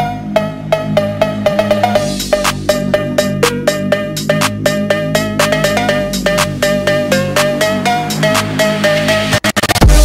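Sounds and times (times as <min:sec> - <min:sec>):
electronic background music: 0:00.0 - 0:10.0.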